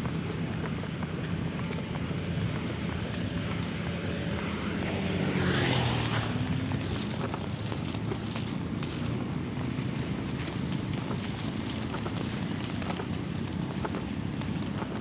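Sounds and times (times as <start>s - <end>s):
outdoor noise: 0.0s - 15.0s
vehicle engine: 0.0s - 15.0s.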